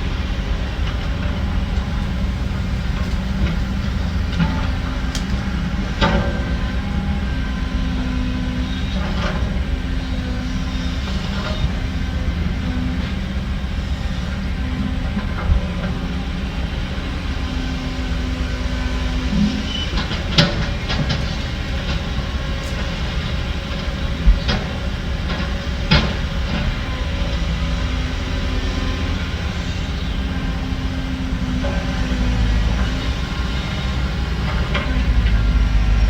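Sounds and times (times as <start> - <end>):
diesel machinery rumbling: 0.0 - 36.0.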